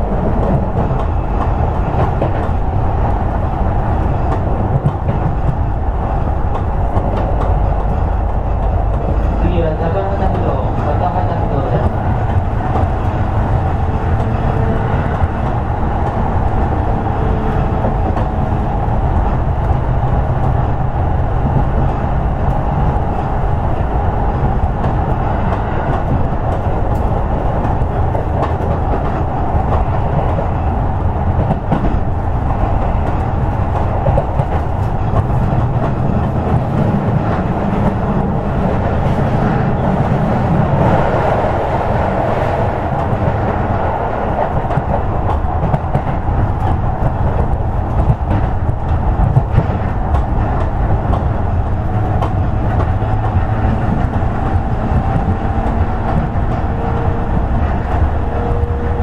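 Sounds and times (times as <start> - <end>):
rumble of wheels on rail: 0.0 - 59.0.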